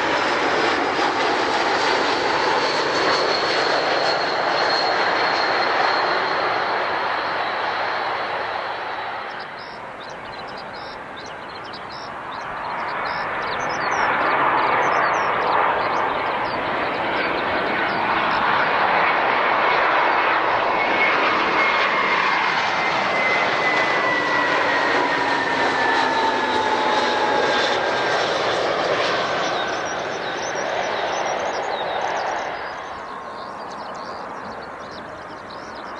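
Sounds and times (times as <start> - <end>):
jet engines roaring: 0.0 - 35.9.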